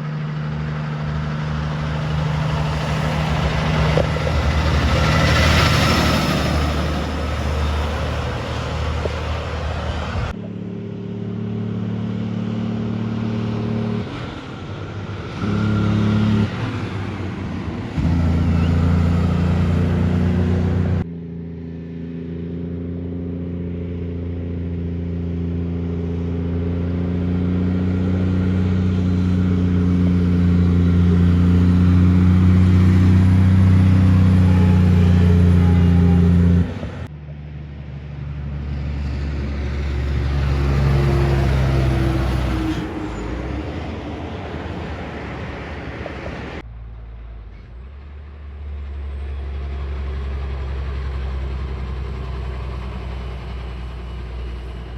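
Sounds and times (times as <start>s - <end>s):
diesel engine running: 0.0s - 21.1s, 24.0s - 54.9s
truck passing: 0.0s - 54.9s.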